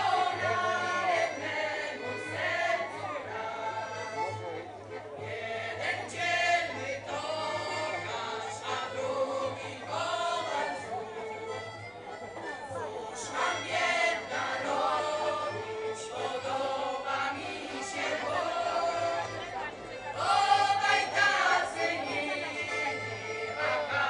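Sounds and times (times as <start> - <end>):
choir singing: 0.0 - 4.2, 5.3 - 11.1, 13.2 - 24.0.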